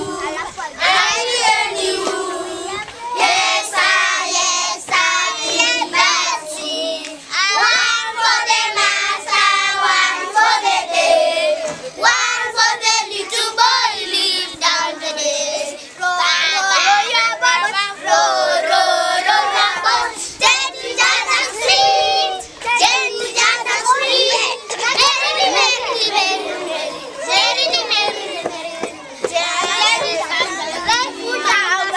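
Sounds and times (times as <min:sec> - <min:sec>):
children singing: 0:00.0 - 0:31.9.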